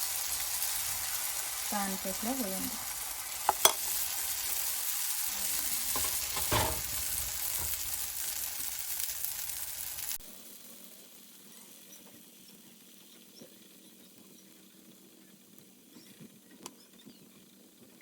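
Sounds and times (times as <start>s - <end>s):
batter sizzling in a pan: 0.0s - 16.4s.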